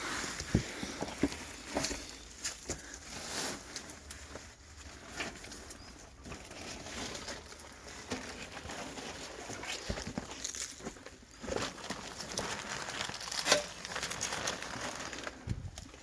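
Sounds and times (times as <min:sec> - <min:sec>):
crackles: 0:00.0 - 0:16.0.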